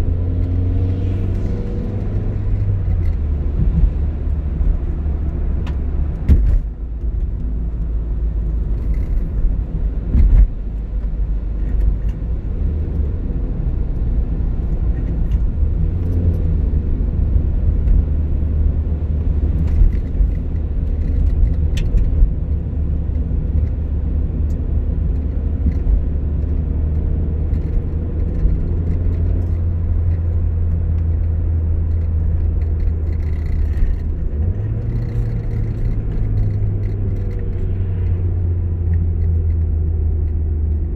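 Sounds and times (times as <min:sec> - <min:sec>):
car engine and road drone: 0:00.0 - 0:40.9.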